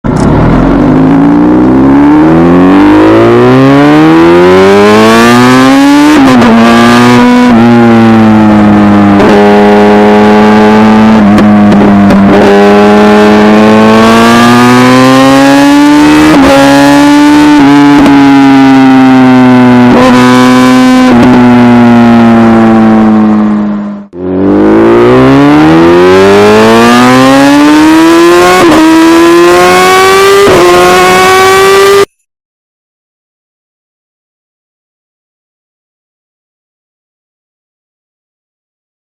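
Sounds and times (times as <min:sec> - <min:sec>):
motorcycle engine accelerating: 0:00.0 - 0:32.2.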